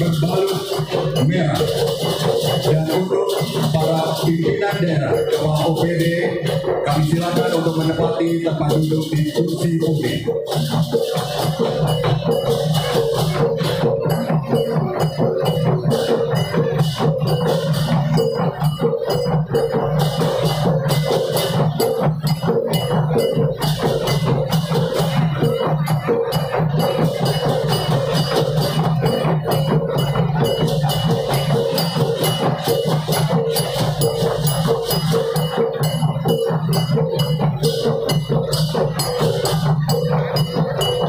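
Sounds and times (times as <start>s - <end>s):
low ringing of bells: 0.0s - 41.0s.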